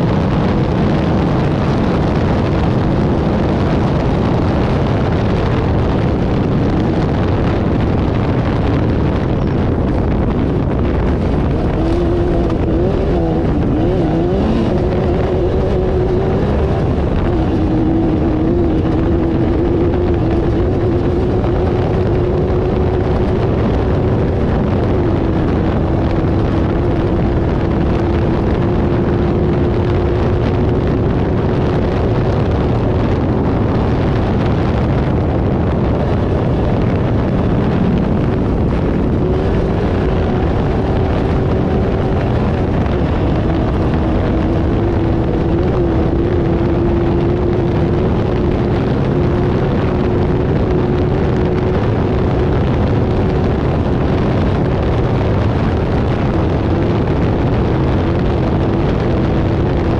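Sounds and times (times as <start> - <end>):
race car engine running hard: 0.0 - 59.9
terrain noise: 0.0 - 59.9
wind noise: 0.0 - 59.9.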